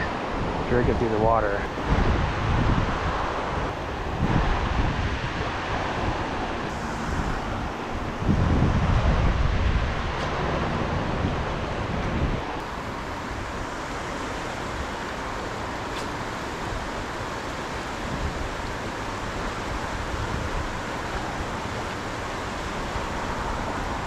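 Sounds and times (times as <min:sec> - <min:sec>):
river rushing over riffle: 0:00.0 - 0:24.0.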